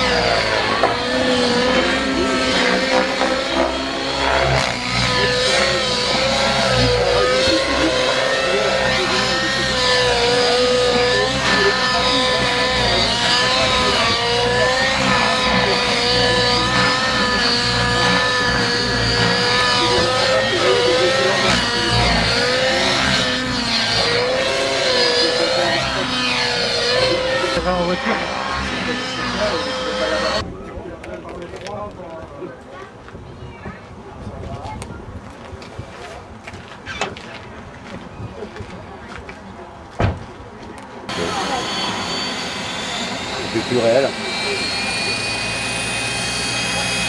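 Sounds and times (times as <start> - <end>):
model helicopter engine whine: 0.0 - 32.5, 41.1 - 47.0.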